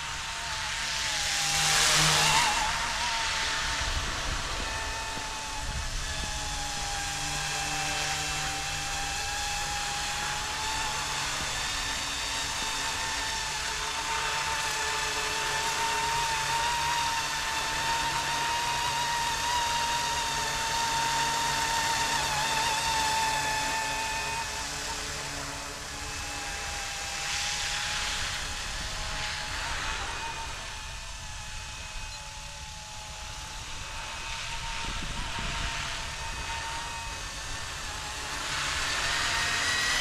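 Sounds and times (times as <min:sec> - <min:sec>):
rc helicopter motor whine: 0:00.0 - 0:40.0.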